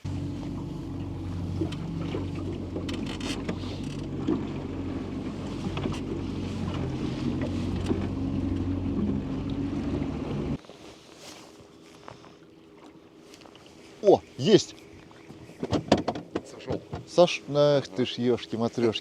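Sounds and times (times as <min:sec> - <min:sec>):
boat motor humming: 0:00.0 - 0:19.0
wind and water noise: 0:00.0 - 0:19.0.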